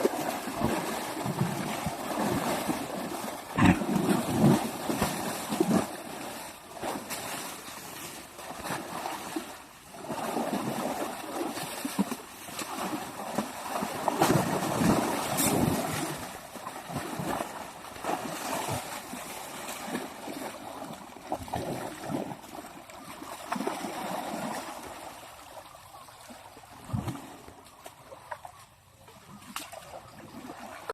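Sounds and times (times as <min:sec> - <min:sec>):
water sloshing and splashing: 0:00.0 - 0:30.9.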